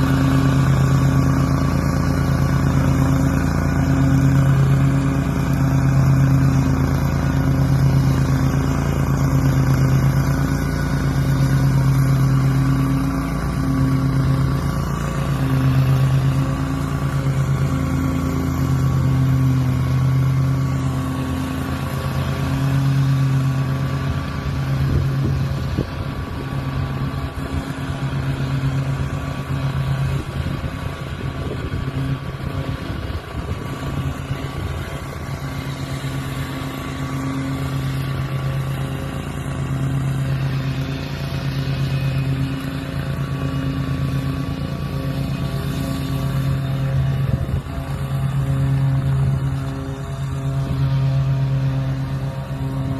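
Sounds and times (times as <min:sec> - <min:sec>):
engine humming: 0:00.0 - 0:52.9.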